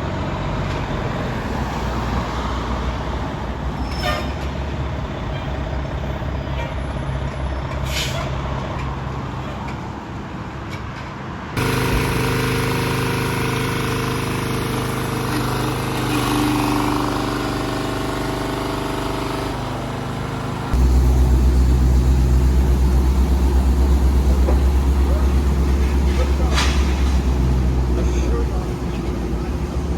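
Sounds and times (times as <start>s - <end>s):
diesel engines running: 0.0s - 29.9s.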